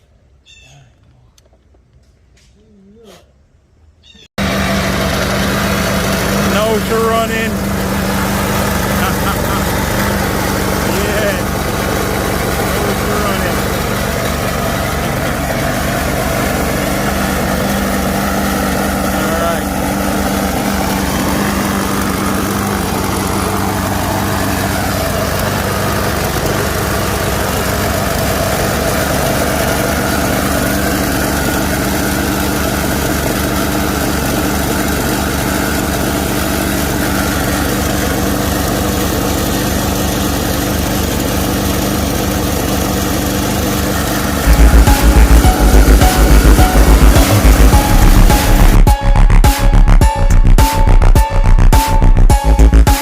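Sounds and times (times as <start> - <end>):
lawnmower engine running: 4.4 - 48.9.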